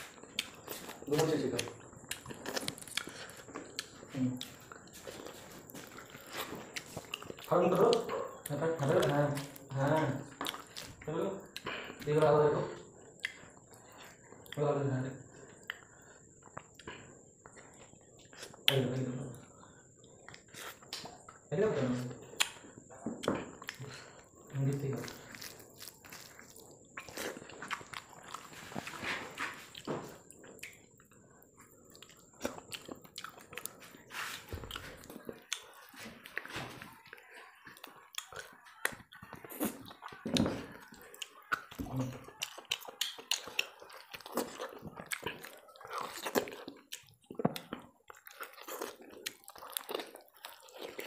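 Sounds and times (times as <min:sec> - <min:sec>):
wet chewing and smacking: 0:00.0 - 0:51.0.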